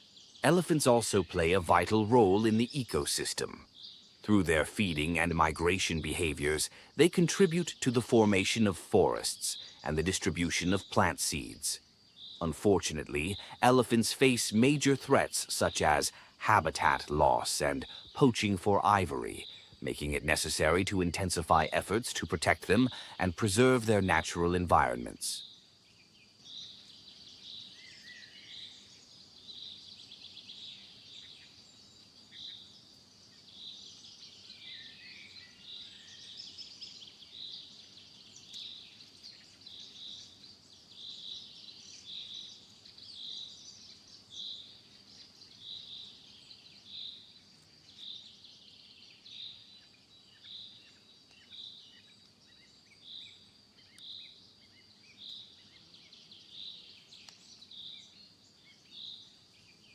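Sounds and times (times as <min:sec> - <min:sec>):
bird chirps: 0:00.0 - 0:59.9
high insect drone: 0:00.1 - 0:59.8.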